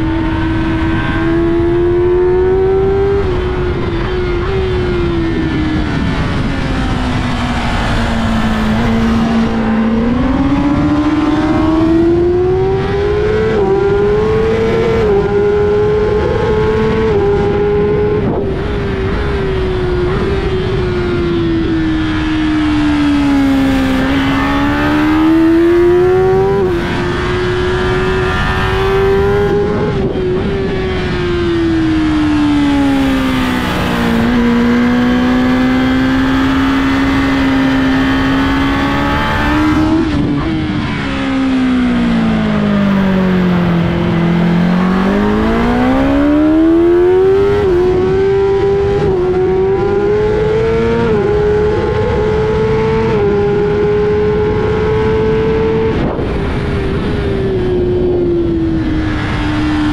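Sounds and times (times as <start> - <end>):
motorcycle engine accelerating: 0.0 - 59.9
wind rush on microphone: 0.0 - 59.9.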